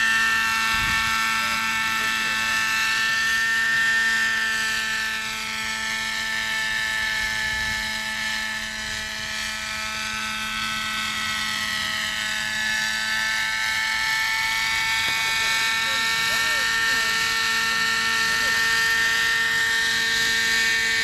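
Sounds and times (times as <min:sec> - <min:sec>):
helicopter rotors: 0:00.0 - 0:21.0
model helicopter engine whine: 0:00.0 - 0:21.0.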